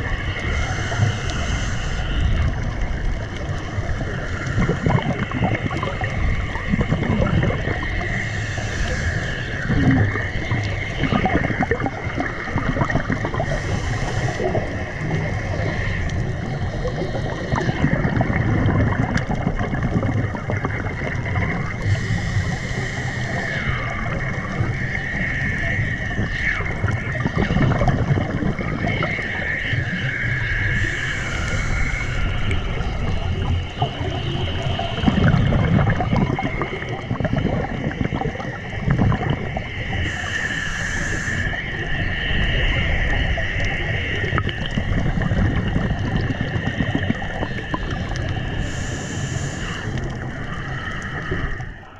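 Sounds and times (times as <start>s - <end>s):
high wavering whine: 0.0s - 51.9s
hissing regulator bubbles: 0.0s - 51.9s
underwater rumbling: 0.0s - 51.9s.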